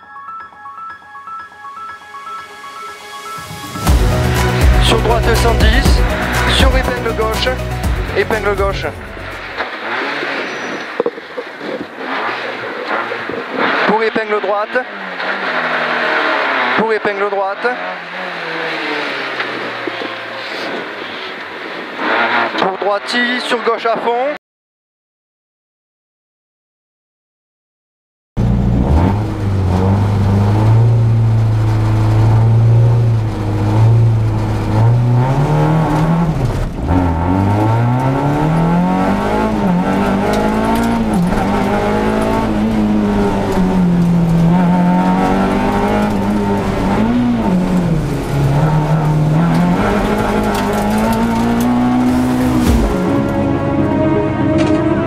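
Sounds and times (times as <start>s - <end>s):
rally car engine revving: 3.7s - 24.4s, 28.4s - 55.0s.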